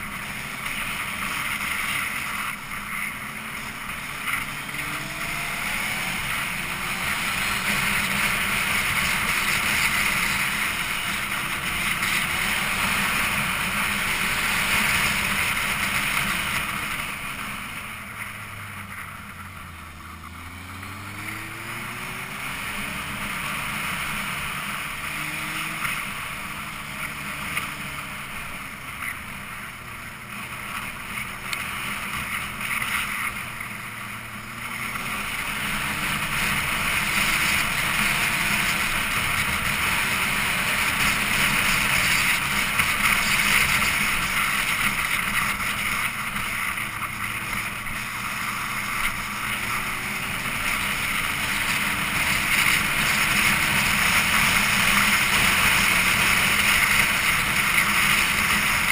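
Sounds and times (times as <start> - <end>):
motorcycle engine: 0.0 - 58.9.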